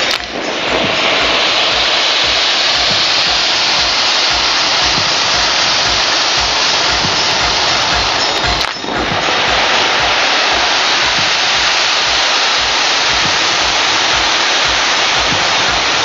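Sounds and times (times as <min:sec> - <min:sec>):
spark fountains hissing: 0:00.0 - 0:16.0.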